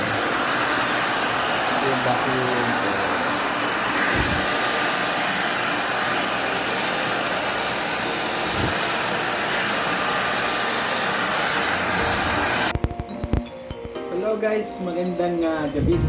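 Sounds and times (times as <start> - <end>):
vacuum cleaner running: 0.0 - 13.3.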